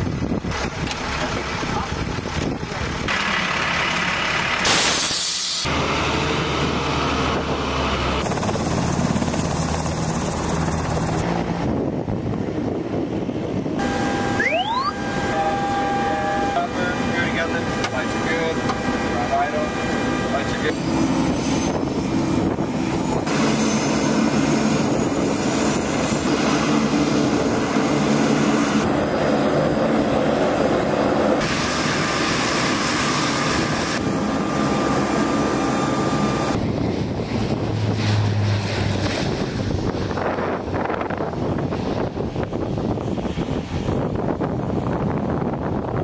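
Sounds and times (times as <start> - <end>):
turboprop engines droning: 5.6 - 46.0.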